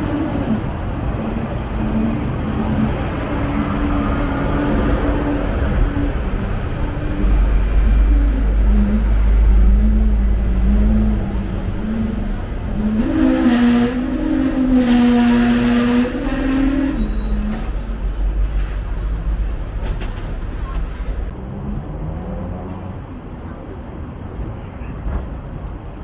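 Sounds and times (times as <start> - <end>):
passing traffic: 0.0 - 26.0
tram rumble and motor hum: 0.0 - 26.0.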